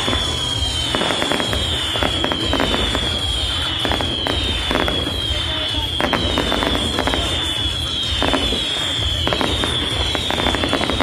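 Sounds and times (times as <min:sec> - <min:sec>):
falling firework whistle: 0:00.0 - 0:11.0
fireworks crackling pops: 0:00.0 - 0:11.0.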